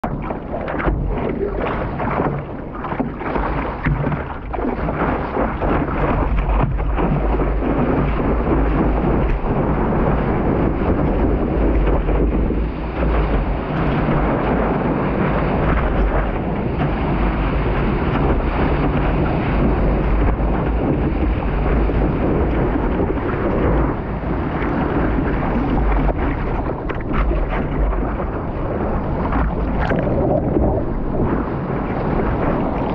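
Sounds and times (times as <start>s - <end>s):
water splashing against board: 0.0s - 32.9s
wind rumbling on microphone: 0.0s - 32.9s.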